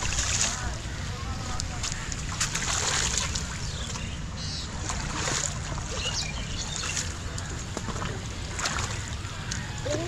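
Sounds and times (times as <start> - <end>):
water splashing against steps: 0.0 - 10.0.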